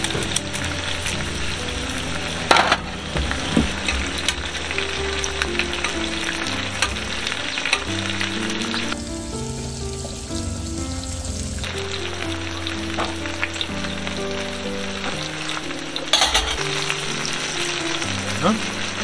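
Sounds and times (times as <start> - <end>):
pork sizzling in a hot pan: 0.0 - 19.0.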